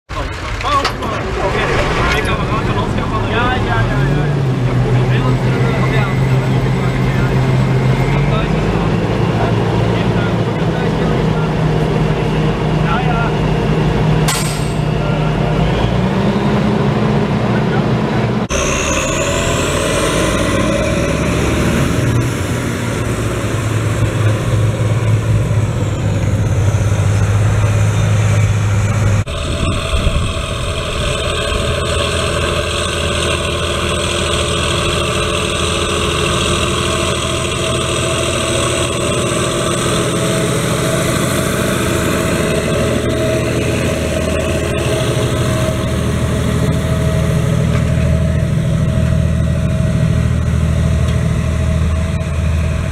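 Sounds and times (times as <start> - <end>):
tractor diesel engine running: 0.1 - 52.9
high whine: 0.2 - 52.9.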